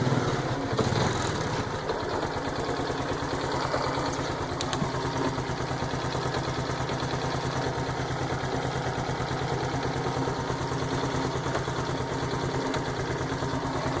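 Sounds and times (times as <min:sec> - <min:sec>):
motorcycle engine idling: 0:00.0 - 0:14.0
mechanical knocking in engine: 0:00.7 - 0:14.0.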